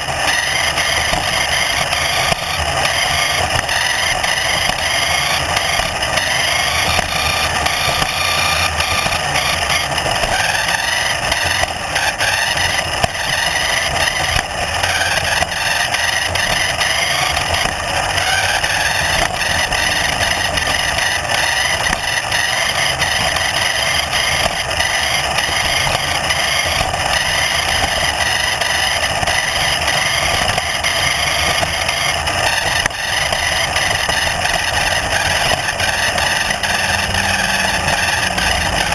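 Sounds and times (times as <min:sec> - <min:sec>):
vehicle motor running: 0:00.0 - 0:38.9.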